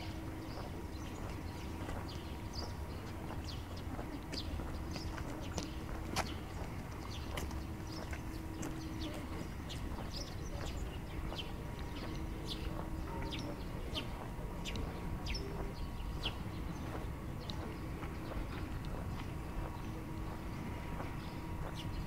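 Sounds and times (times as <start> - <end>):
footsteps on paved path: 0.0 - 22.0
low outdoor rumble: 0.0 - 22.0.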